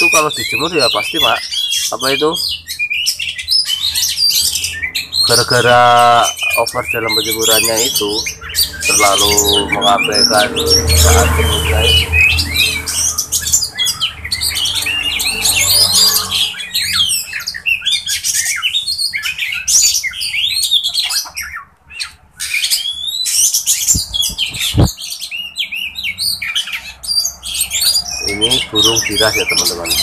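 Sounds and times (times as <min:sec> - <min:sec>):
birds singing and chattering: 0:00.0 - 0:30.0.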